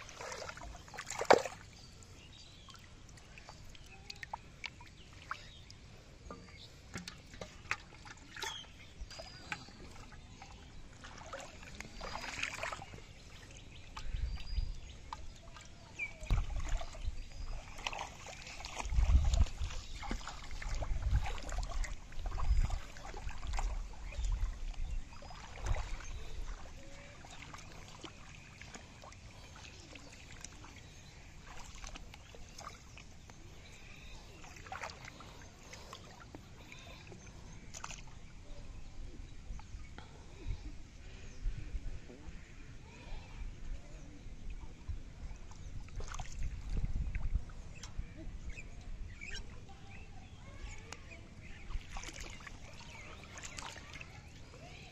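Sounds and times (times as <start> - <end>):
feet wading through shallow water: 0.0 - 54.9.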